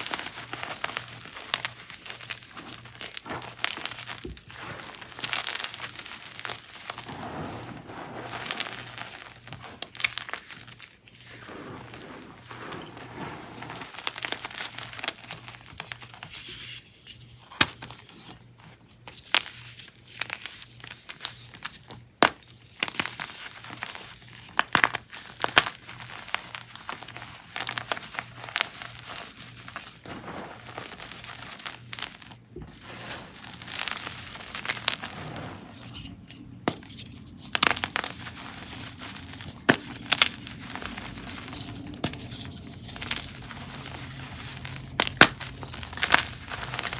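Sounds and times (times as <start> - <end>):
chalk crushing and crunching: 0.0 - 16.9, 20.1 - 46.9.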